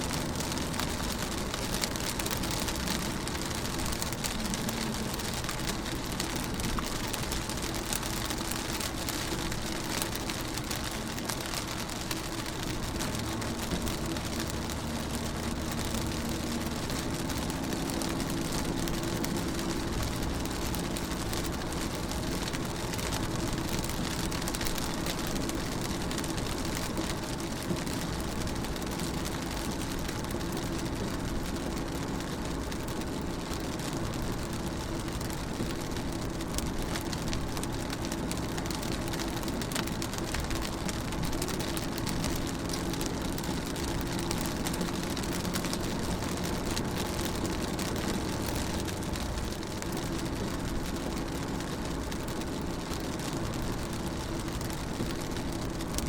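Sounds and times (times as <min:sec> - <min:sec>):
engine and road noise: 0:00.0 - 0:56.0
rain pattering on car roof: 0:00.0 - 0:56.0.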